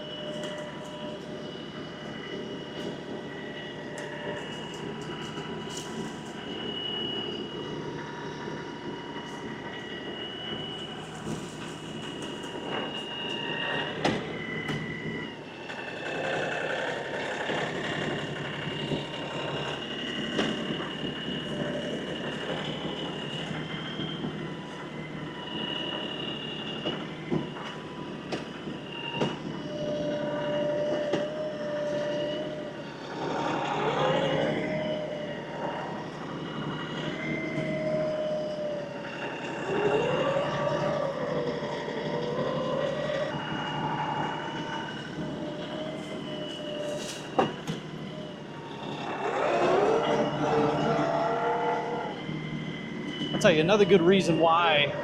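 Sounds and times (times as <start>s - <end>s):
hydraulic whine: 0.0s - 55.0s
tractor engine droning: 0.0s - 55.0s.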